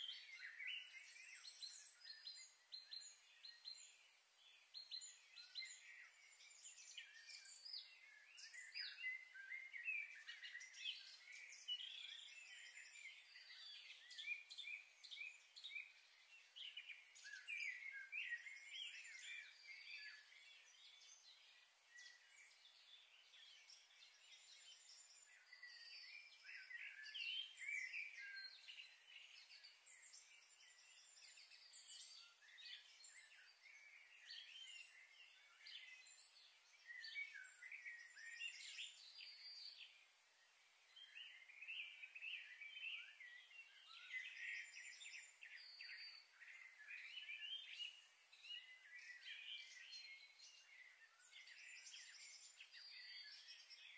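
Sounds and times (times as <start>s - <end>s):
small birds twittering: 0.0s - 53.9s.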